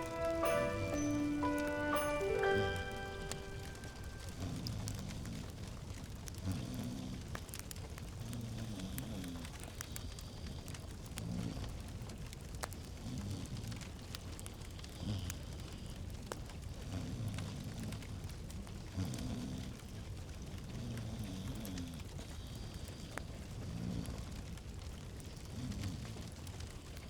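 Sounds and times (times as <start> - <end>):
wood fire crackling: 0.0 - 20.8, 22.0 - 27.0.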